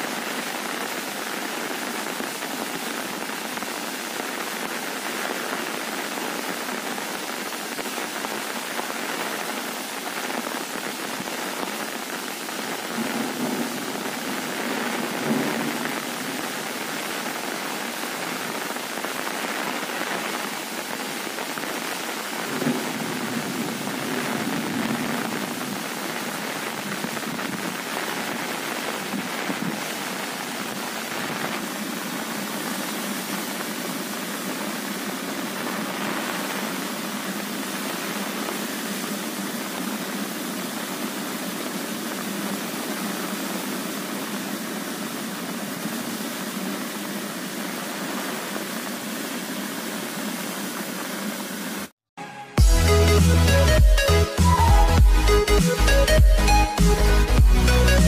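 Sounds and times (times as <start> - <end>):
steady rain falling: 0.0 - 52.0, 52.8 - 58.0
waterfall rushing: 0.0 - 58.0.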